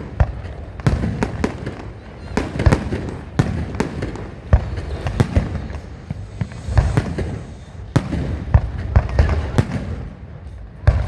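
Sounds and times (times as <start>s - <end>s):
fireworks exploding: 0.0s - 11.0s.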